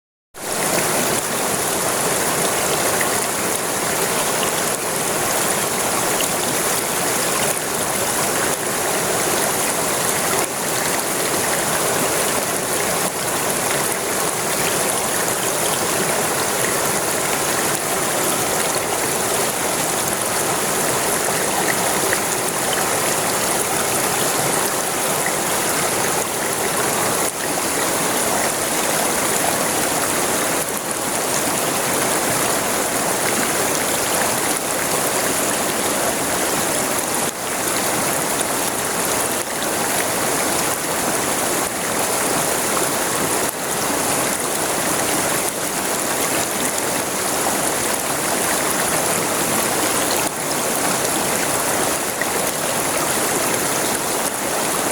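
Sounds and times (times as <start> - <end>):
river water rushing: 0.4 - 54.9.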